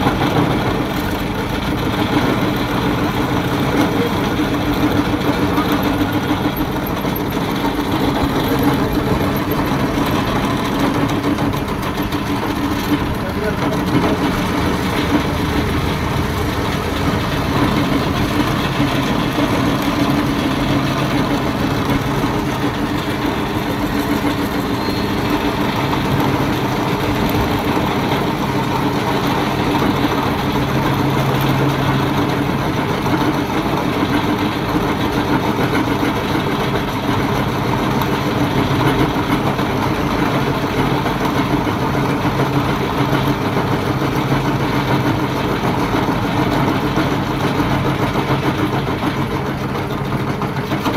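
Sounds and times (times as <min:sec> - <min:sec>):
metal lathe cutting: 0:00.0 - 0:50.9.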